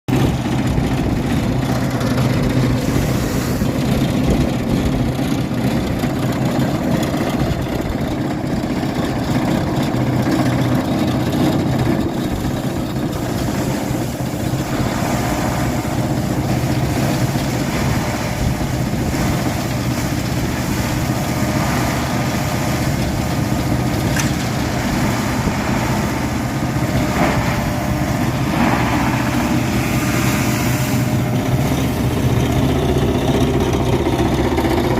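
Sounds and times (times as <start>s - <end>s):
engine idling: 0.1s - 34.9s.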